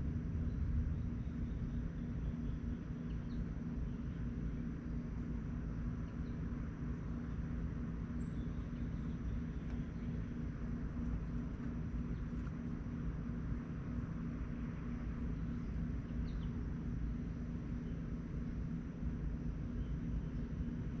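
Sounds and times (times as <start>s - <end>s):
low mechanical rumble: 0.0s - 21.0s
pulsing hum: 0.0s - 21.0s
faint bird chirp: 0.4s - 5.3s, 5.9s - 12.8s, 14.2s - 18.3s, 19.4s - 21.0s.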